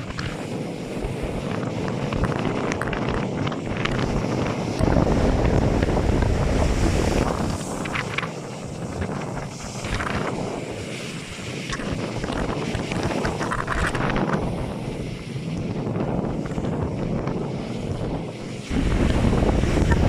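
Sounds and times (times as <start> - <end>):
sea surf: 0.0 - 20.0
wind buffeting the microphone: 0.0 - 20.0.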